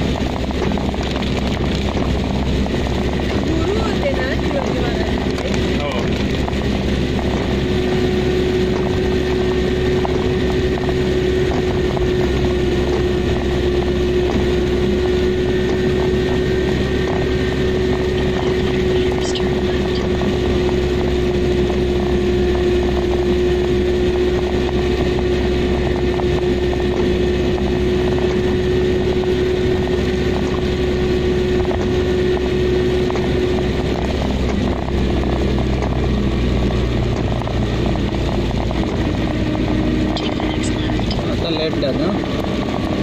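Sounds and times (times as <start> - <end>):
car engine rumble: 0.0 - 43.0
tyres on wet road: 0.0 - 43.0.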